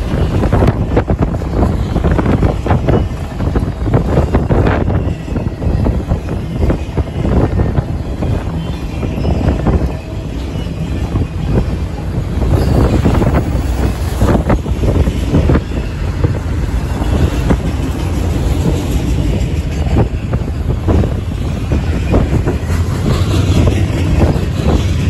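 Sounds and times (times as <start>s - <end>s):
steel wheels rumbling on rail: 0.0s - 25.0s
wheels clacking on track: 0.0s - 25.0s.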